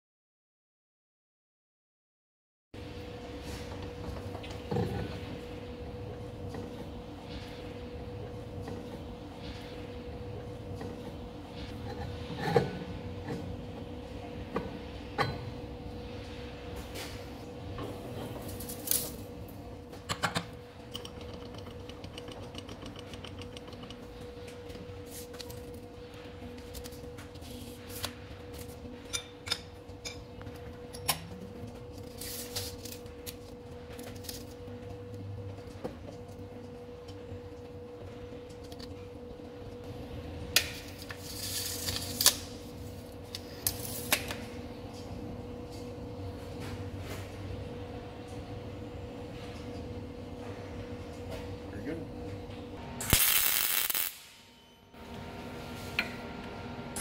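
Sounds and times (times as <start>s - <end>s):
machine-shop hum: 2.8s - 57.0s.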